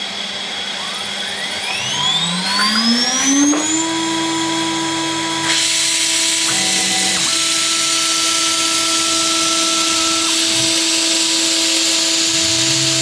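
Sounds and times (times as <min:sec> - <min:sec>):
router spindle whine: 0:00.0 - 0:13.0
faint motor tones: 0:00.8 - 0:13.0.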